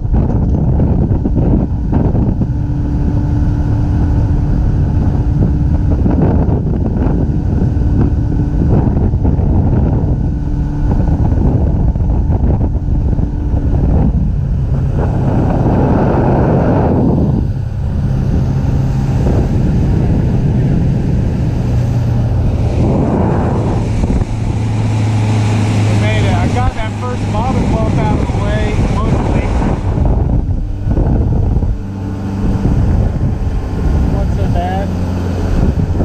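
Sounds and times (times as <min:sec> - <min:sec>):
outboard motor running: 0:00.0 - 0:36.0
wind buffeting microphone: 0:00.0 - 0:36.0.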